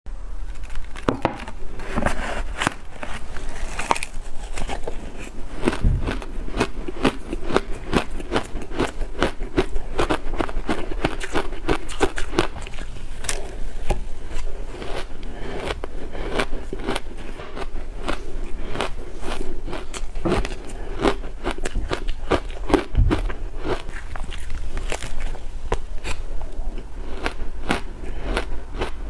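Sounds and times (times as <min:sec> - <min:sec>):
crunching and chewing ice: 0:02.5 - 0:29.0.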